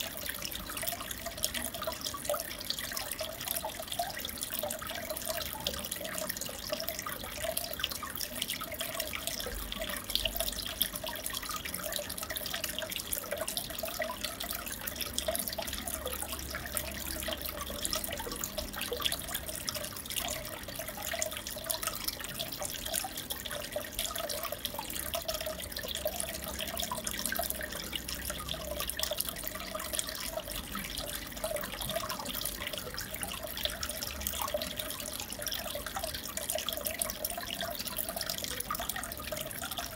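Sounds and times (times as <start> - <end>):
small drip-like splashes: 0.0 - 39.9
water trickling and splashing: 0.0 - 39.9.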